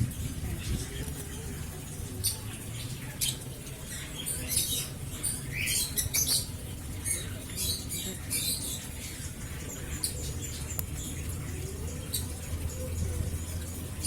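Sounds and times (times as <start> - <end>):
birds chirping and squeaking: 0.0 - 14.0
low steady rumble: 0.0 - 14.0.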